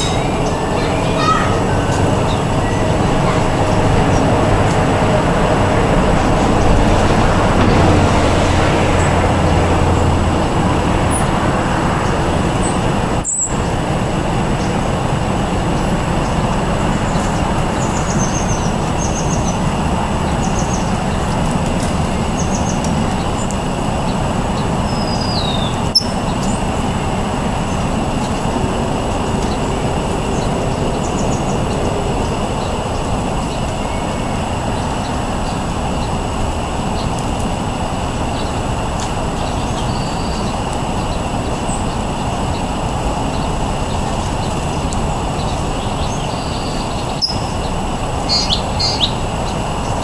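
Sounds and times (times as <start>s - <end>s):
low engine hum: 0.0s - 50.0s
road traffic noise: 0.0s - 50.0s.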